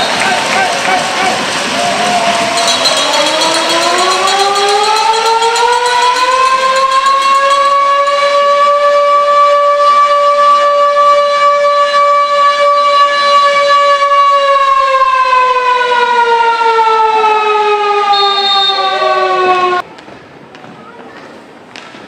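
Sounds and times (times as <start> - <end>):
siren wailing: 0.0 - 19.8.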